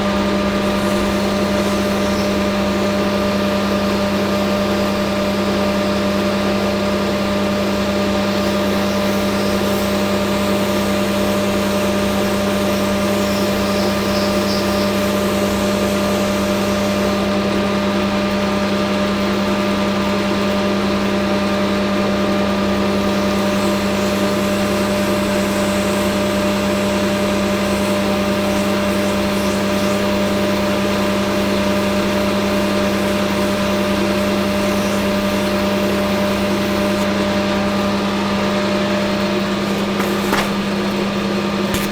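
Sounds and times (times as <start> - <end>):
metal lathe running: 0.0 - 41.9.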